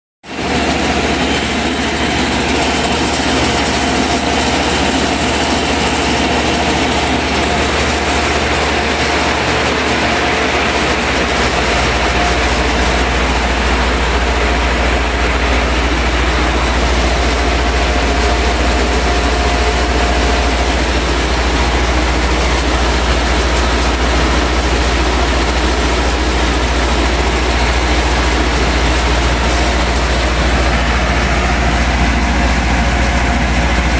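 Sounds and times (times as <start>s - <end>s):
mill grinding rubber: 0.3s - 33.9s
low hum: 1.6s - 33.9s.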